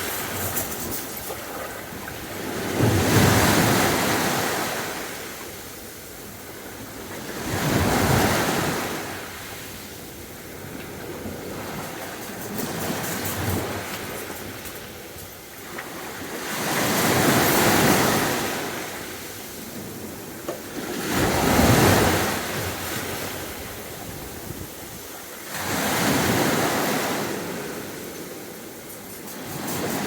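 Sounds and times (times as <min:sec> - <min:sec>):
sea waves breaking on beach: 0:00.0 - 0:30.0.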